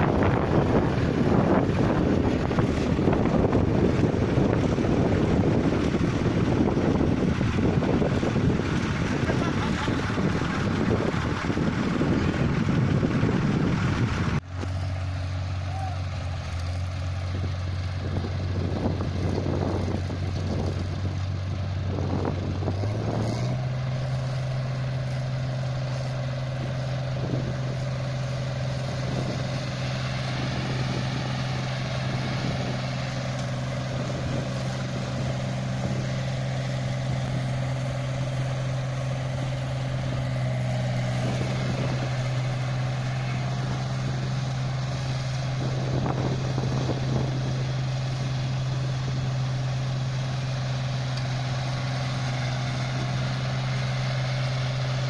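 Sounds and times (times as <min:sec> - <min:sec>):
harvester diesel engine running: 0:00.0 - 0:55.0.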